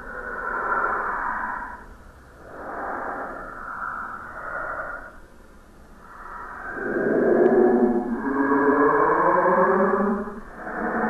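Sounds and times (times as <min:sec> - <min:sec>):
breathy whooshing noise: 0:00.0 - 0:11.0.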